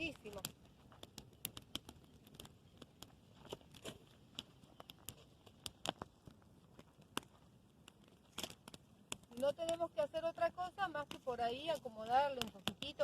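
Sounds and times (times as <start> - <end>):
campfire crackling: 0.0 - 13.0
sharp pops and snaps of fire: 0.0 - 13.0.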